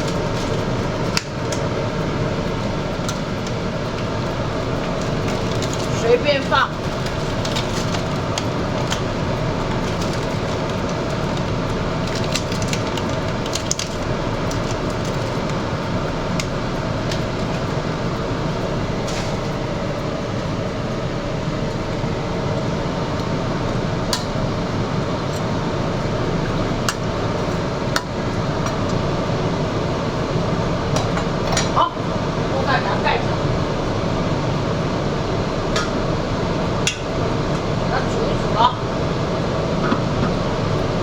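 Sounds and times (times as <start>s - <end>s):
stove burner rushing: 0.0s - 41.0s.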